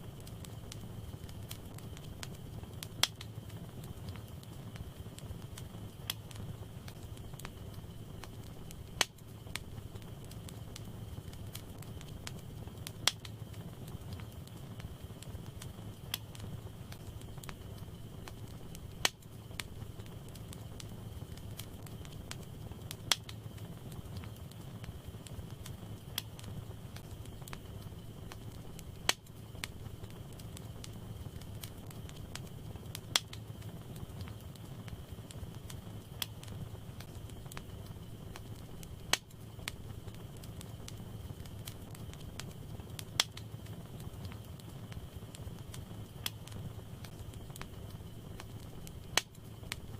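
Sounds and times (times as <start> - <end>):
loud sharp fire snaps: 0.0 - 49.9
low rumble of flames: 0.0 - 49.9
wood fire crackling and popping: 0.0 - 49.9.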